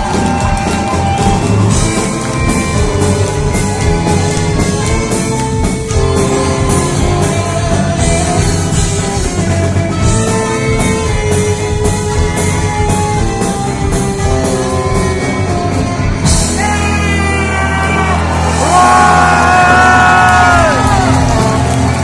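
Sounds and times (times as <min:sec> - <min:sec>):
rock band playing instrumental: 0:00.0 - 0:22.0.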